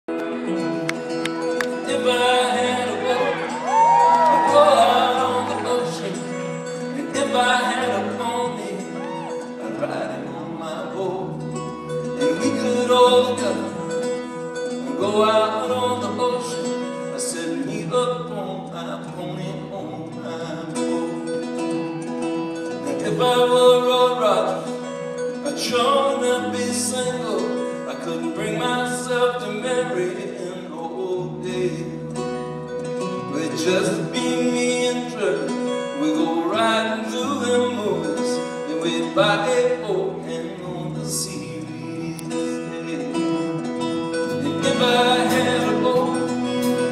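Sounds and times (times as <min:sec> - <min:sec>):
acoustic guitar: 0:00.0 - 0:46.9
man singing: 0:00.1 - 0:46.9.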